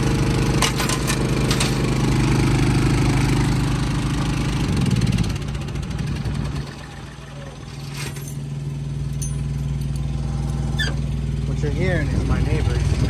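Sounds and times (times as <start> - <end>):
generator running: 0.0 - 13.0
low engine hum: 0.0 - 13.0.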